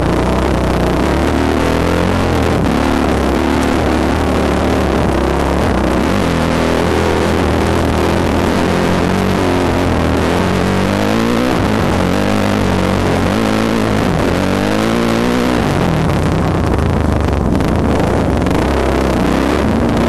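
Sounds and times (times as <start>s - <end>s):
dirt bike engine revving: 0.0s - 20.0s
wind rushing over microphone: 0.0s - 20.0s.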